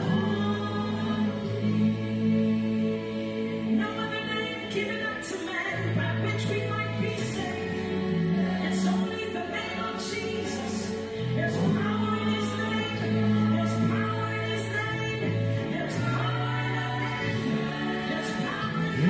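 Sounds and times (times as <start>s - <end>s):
choir singing long notes: 0.0s - 4.7s, 7.2s - 19.0s.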